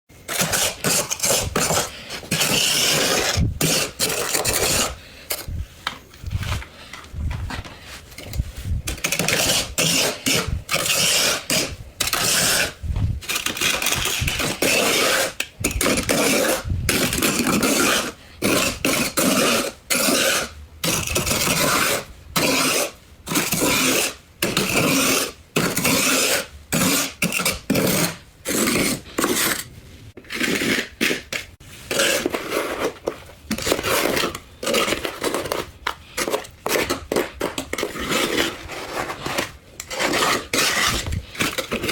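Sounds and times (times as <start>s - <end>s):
frost being scraped off: 0.3s - 5.6s, 7.8s - 41.9s.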